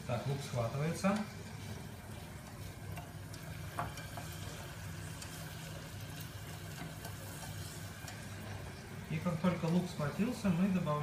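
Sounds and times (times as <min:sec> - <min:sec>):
onion sizzling in a pan: 0:00.0 - 0:11.0.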